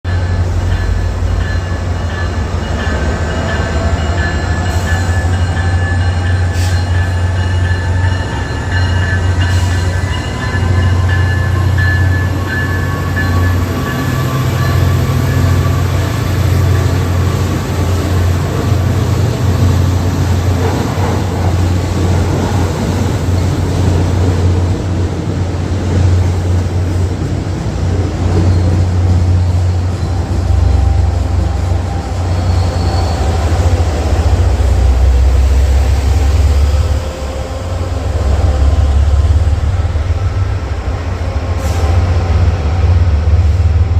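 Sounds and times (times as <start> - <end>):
train rumbling by: 0.0 - 43.9.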